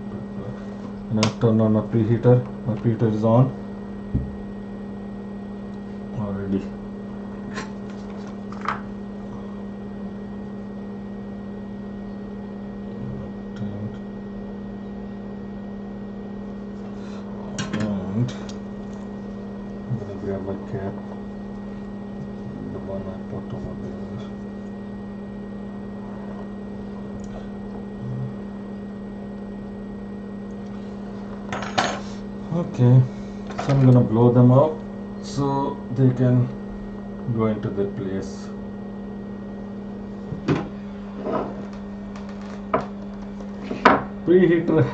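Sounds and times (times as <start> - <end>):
electric fan hum: 0.0 - 44.9.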